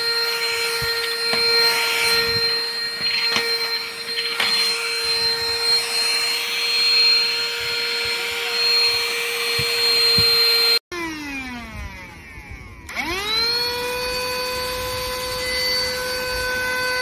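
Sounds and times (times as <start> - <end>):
stick vacuum motor whining: 0.0 - 17.0
vacuum motor winding down: 0.0 - 17.0.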